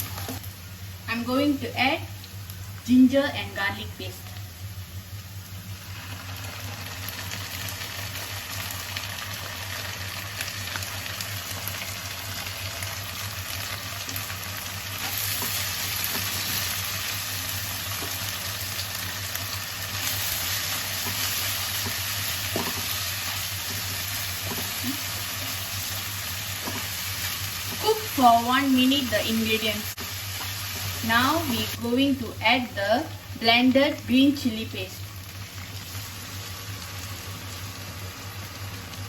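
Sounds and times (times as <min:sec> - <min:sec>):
onions frying in oil: 0:00.0 - 0:39.0.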